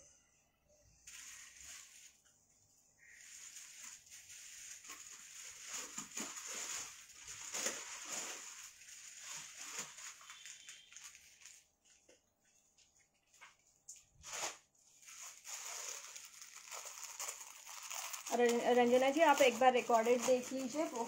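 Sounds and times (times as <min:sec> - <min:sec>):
plastic packets crinkling: 0:01.1 - 0:02.2, 0:03.0 - 0:12.1, 0:14.2 - 0:21.0.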